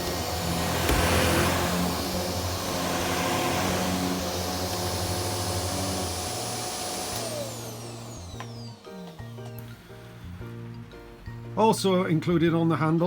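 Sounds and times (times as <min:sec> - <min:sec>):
vacuum cleaner running: 0:00.0 - 0:10.7.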